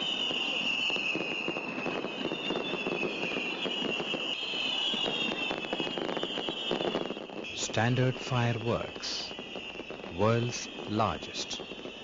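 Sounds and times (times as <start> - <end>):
firework whistles falling in pitch: 0.0 - 7.5, 8.1 - 12.0
fireworks crackling: 0.0 - 12.0.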